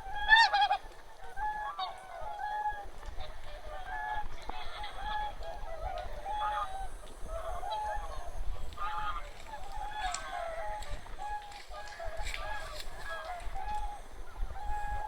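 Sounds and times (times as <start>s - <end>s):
flock of geese honking: 0.0s - 15.0s.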